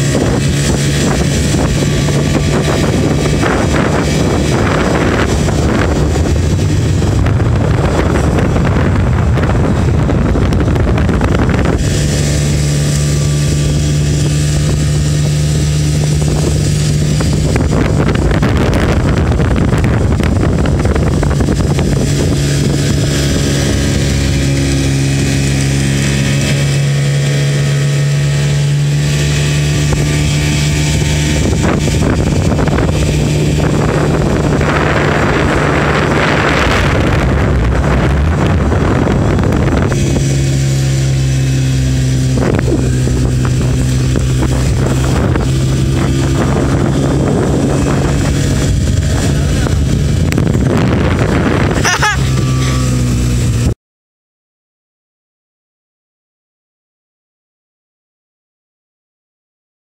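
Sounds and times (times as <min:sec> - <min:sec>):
outboard motor droning: 0:00.0 - 0:53.8
rushing noise: 0:00.0 - 0:53.8.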